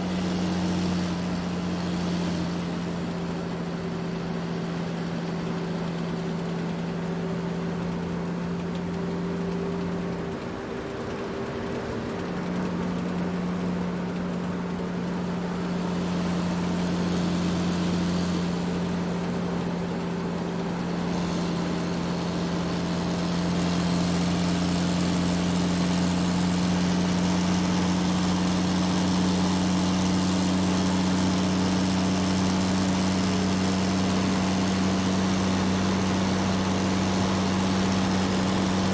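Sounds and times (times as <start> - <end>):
truck engine hum: 0.0 - 38.9.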